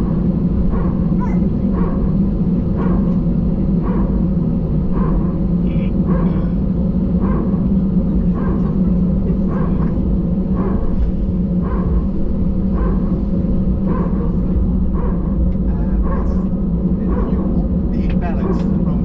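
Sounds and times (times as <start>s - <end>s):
airplane cabin drone: 0.0s - 19.0s.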